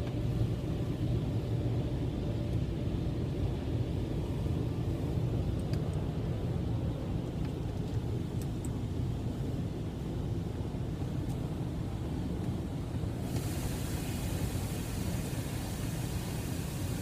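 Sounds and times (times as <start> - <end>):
car rumble inside cabin: 0.0 - 17.0.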